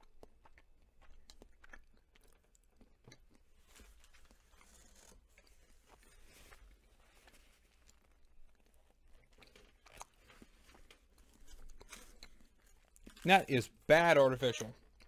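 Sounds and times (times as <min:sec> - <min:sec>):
chewing: 0:00.0 - 0:13.4, 0:14.5 - 0:15.0.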